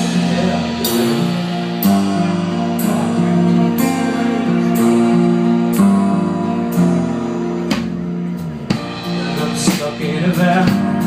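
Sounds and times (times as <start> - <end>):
sharp percussion hits: 0.0 - 11.0
strummed guitar chords: 0.0 - 11.0.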